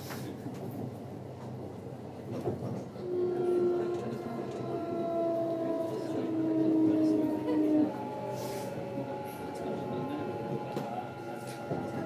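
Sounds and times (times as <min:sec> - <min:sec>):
train car hum: 0:00.0 - 0:12.0.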